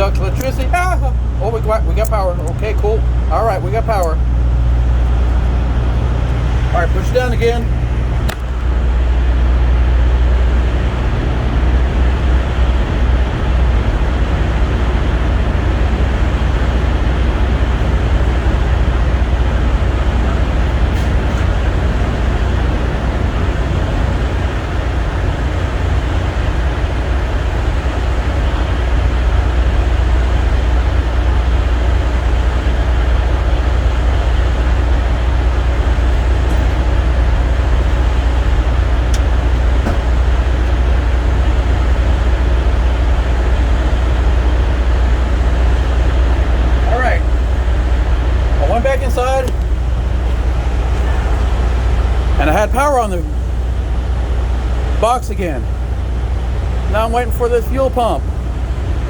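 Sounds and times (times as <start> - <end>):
low mechanical drone: 0.0 - 59.0.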